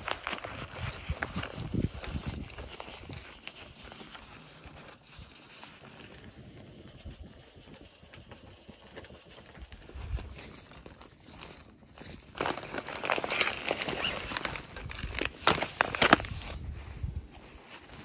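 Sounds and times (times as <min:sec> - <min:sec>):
fabric rustling and crinkling: 0:00.0 - 0:18.0.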